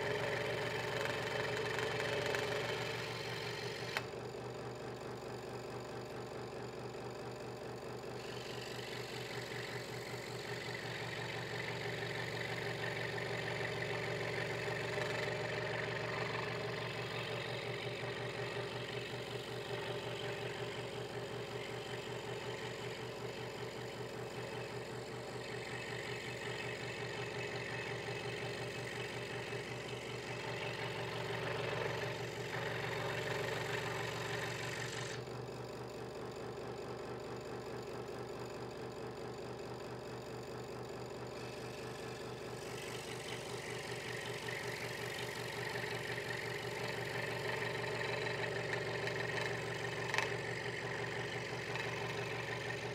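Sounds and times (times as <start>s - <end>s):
scroll saw blade cutting wood: 0.0s - 4.1s, 8.2s - 35.2s, 41.4s - 52.9s
motor hum: 0.0s - 52.9s.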